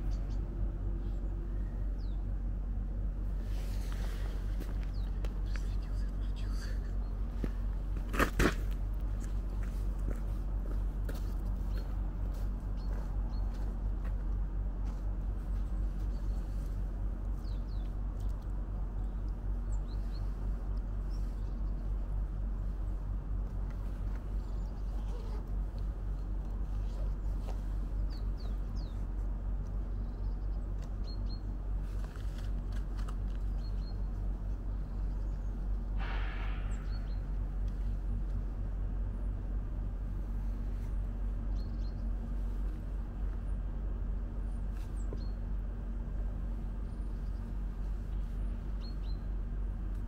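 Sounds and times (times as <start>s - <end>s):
small birds chirping: 0.0s - 2.5s, 3.4s - 7.8s, 9.2s - 14.4s, 15.4s - 32.4s, 33.3s - 38.4s, 40.3s - 49.9s
steady low rumble: 0.0s - 50.0s.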